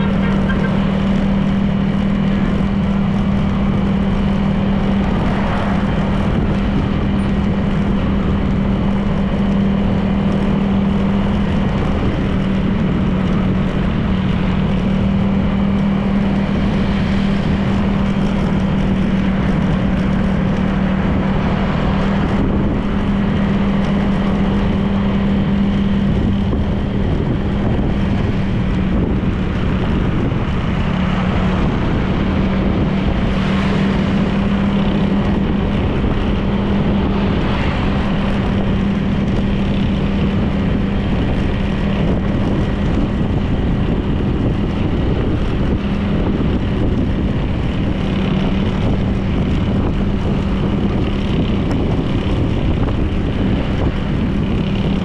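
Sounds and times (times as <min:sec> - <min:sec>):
road and wind noise: 0:00.0 - 0:55.0
scooter engine cruising: 0:00.0 - 0:55.0.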